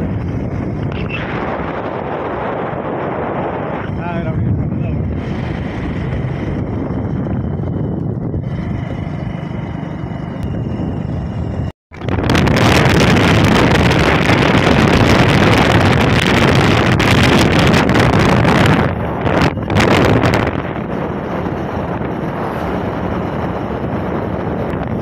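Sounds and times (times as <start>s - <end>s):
road vehicle running noise: 0.0s - 25.0s
wind rushing over microphone: 0.0s - 25.0s.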